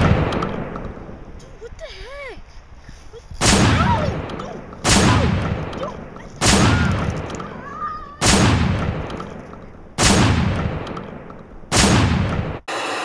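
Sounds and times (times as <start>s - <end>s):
gunshots echoing: 0.0s - 1.4s, 3.4s - 12.7s.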